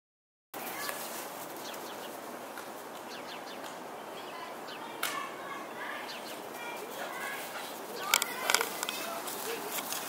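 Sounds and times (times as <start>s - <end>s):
birds chirping: 0.6s - 10.0s
outdoor background hiss: 0.6s - 10.0s.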